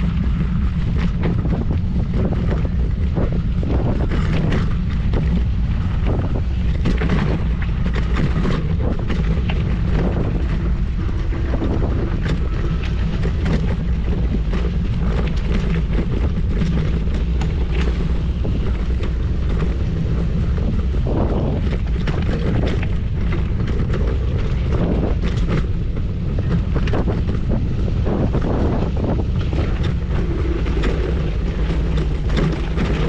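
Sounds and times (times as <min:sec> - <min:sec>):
short crackles and knocks: 0:00.0 - 0:33.0
wind buffeting microphone: 0:00.0 - 0:33.0.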